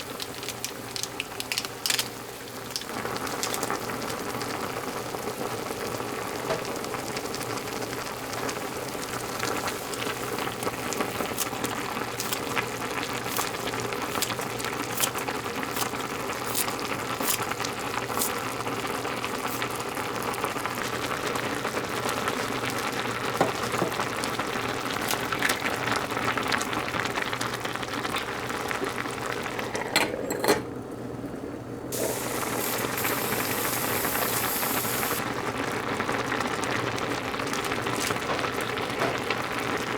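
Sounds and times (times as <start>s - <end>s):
sharp crackles of cooking: 0.0s - 29.8s, 31.8s - 39.9s
food sizzling and bubbling: 0.0s - 30.9s, 31.9s - 39.9s.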